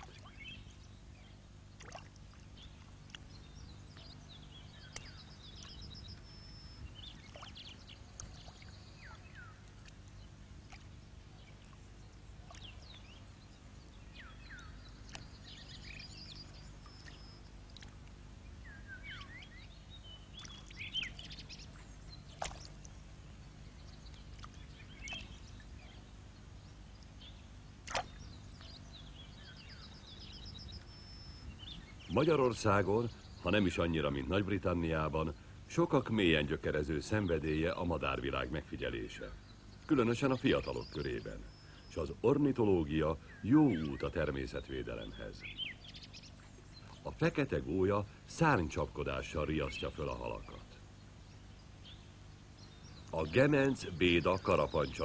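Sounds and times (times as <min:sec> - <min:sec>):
bird chirps and trills: 0:00.0 - 0:55.0
low steady hum: 0:00.0 - 0:55.0.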